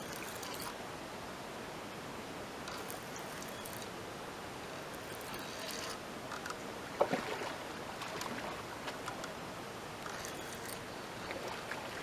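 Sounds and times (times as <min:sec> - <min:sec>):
steady hiss of water: 0:00.0 - 0:12.0.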